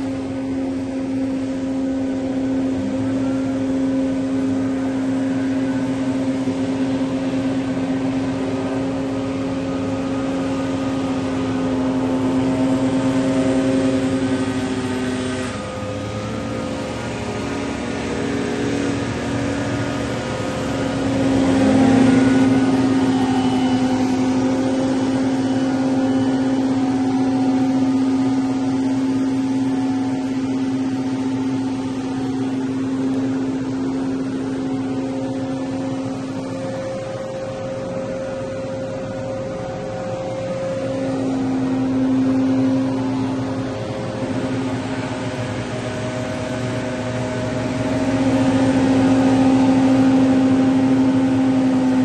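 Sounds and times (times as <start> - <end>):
leaf blower running: 0.0 - 52.0.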